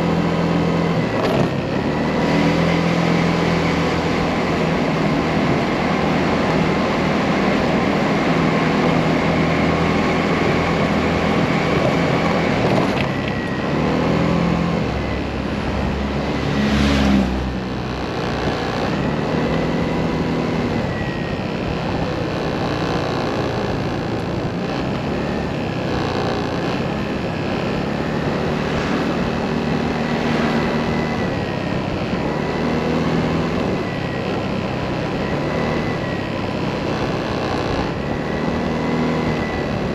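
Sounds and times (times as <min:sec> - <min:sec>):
motorcycle engine running: 0:00.0 - 0:39.9
road noise: 0:00.0 - 0:39.9
rushing wind: 0:00.0 - 0:39.9.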